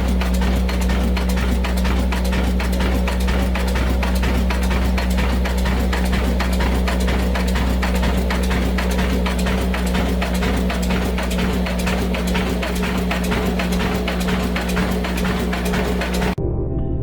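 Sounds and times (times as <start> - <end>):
diesel engine knocking: 0.0 - 16.4.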